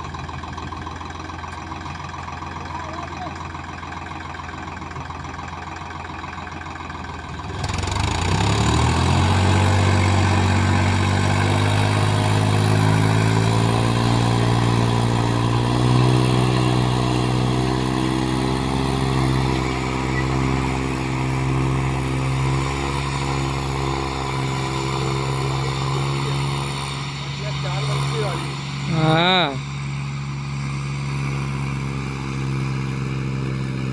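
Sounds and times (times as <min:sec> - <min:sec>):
tractor diesel engine revving: 0:00.0 - 0:33.9.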